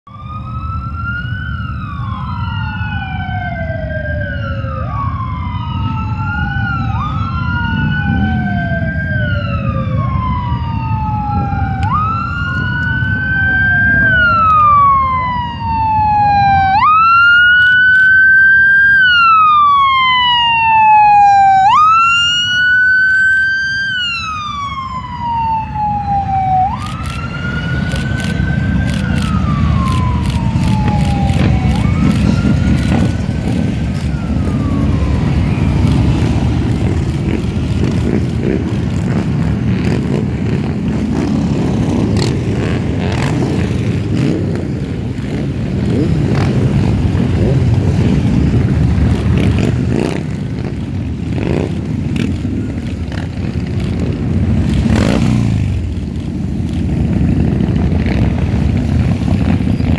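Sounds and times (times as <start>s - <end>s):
emergency sirens wailing: 0.0s - 59.9s
motorcycle engines rumbling: 0.1s - 59.9s.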